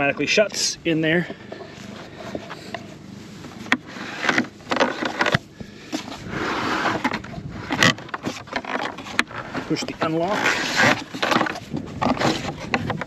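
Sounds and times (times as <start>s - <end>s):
container slide scraping: 1.4s - 13.0s.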